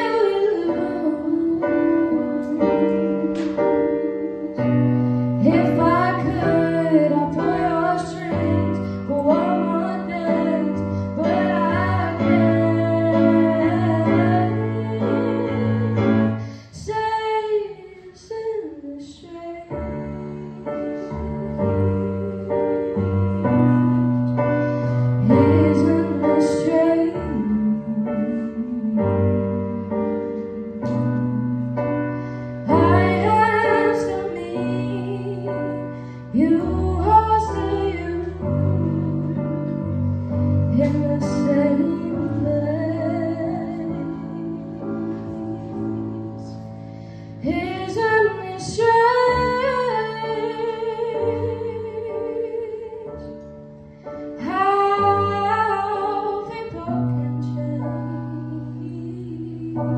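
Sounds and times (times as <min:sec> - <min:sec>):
woman singing slow song: 0:00.0 - 0:20.7, 0:25.2 - 0:31.7, 0:32.7 - 0:46.7, 0:47.4 - 0:53.5, 0:54.4 - 0:59.9.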